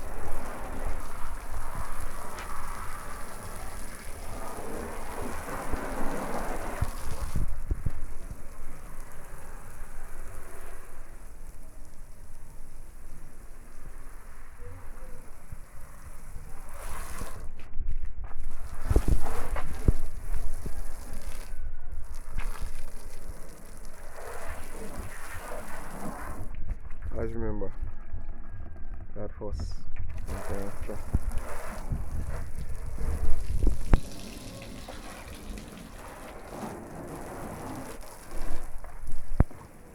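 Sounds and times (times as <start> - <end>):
water spraying onto car: 0.0 - 17.6, 18.2 - 26.7, 30.2 - 39.9.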